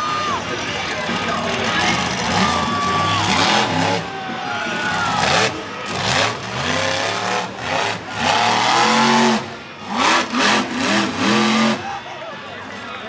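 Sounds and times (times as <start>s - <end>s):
monster truck engine revving: 0.0s - 12.1s.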